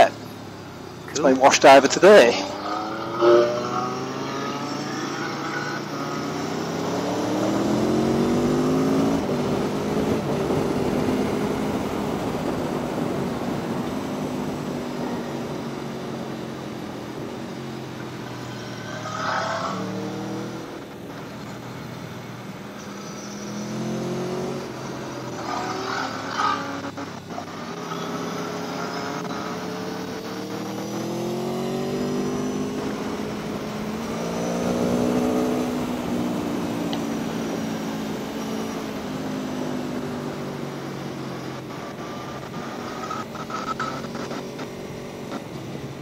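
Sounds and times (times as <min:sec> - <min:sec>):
motorcycle engine accelerating: 0:00.0 - 0:46.0
wind and road noise: 0:00.0 - 0:46.0.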